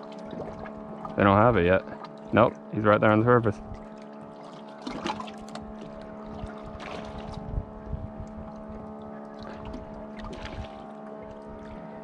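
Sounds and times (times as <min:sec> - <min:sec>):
boat mechanical hum: 0:00.0 - 0:12.0.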